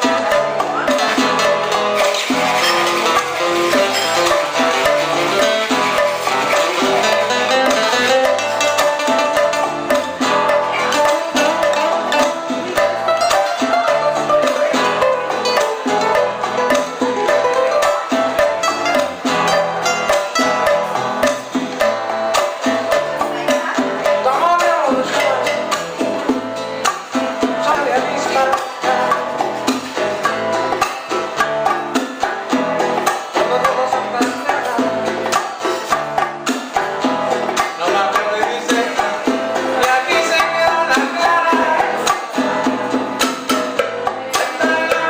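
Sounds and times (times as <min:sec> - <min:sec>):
live band playing cuban music: 0:00.0 - 0:45.0
percussion beat: 0:00.0 - 0:45.0
plucked strings picking rapid notes: 0:00.0 - 0:45.0.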